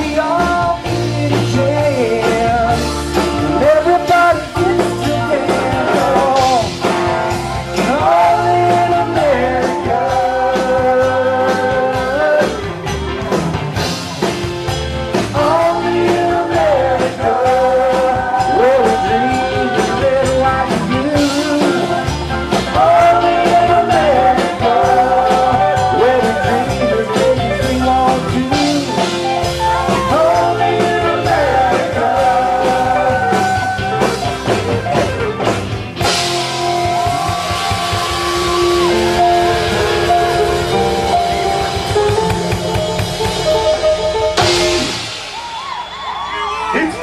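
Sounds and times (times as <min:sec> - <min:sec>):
live rock band playing: 0:00.0 - 0:47.0.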